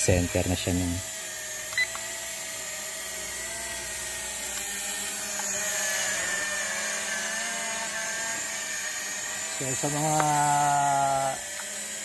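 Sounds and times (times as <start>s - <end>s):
drone whining buzz: 0.0s - 12.0s.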